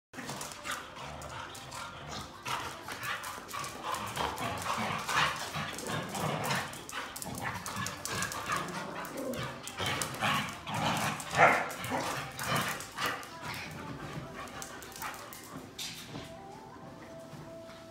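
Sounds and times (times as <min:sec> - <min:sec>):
dogs vocalizing: 0:00.2 - 0:15.5.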